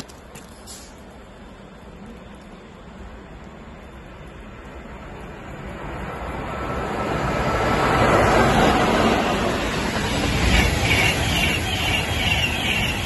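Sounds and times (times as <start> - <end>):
carriages pulsing by: 0.0 - 13.0
high-speed train passing: 0.0 - 13.0.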